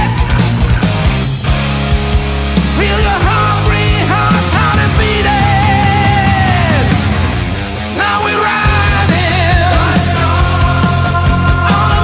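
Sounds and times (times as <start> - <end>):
heavy metal music: 0.0 - 12.0.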